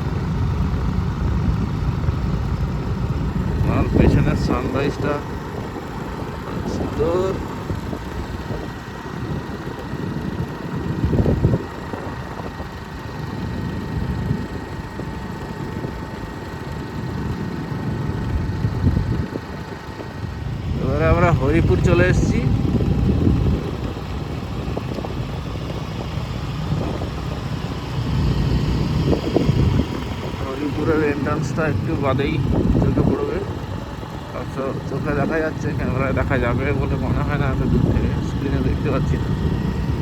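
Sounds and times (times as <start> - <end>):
motorcycle engine rumble: 0.0 - 40.0.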